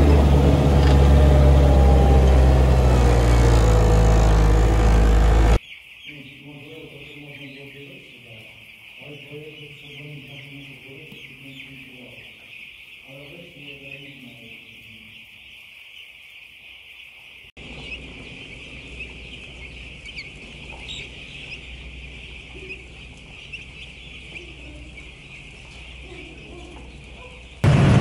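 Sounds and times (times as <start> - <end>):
chicks peeping: 0.0 - 27.7.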